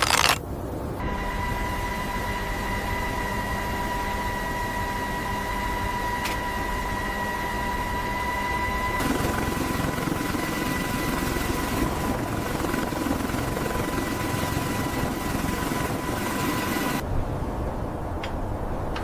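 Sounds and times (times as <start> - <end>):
helicopter rotor and turbine: 0.0 - 17.1.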